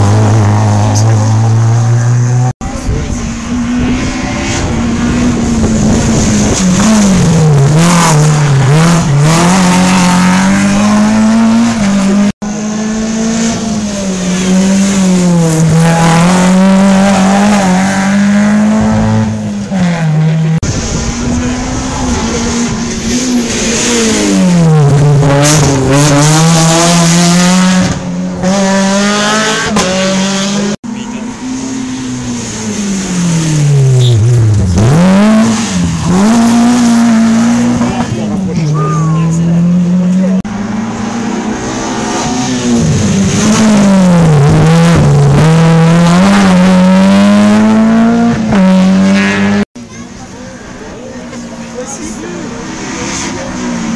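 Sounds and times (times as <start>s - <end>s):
rally car engines at full throttle: 0.0s - 53.9s.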